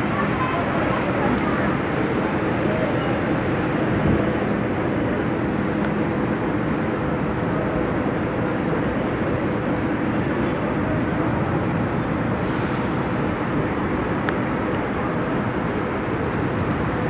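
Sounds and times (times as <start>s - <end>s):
idling bus engines hum: 0.0s - 17.0s.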